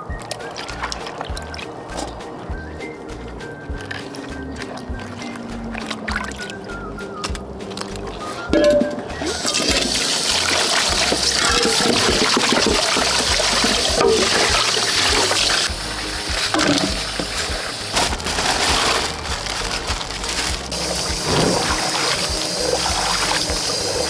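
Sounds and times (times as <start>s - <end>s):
water gushing and splashing: 0.2s - 24.0s.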